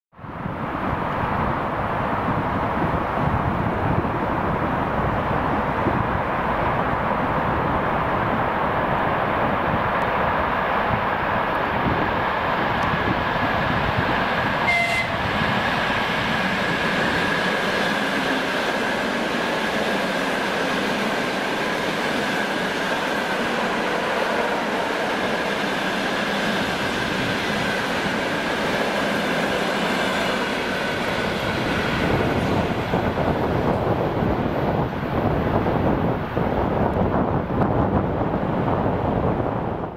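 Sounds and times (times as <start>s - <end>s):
train wheels rumbling on rail: 0.2s - 39.9s.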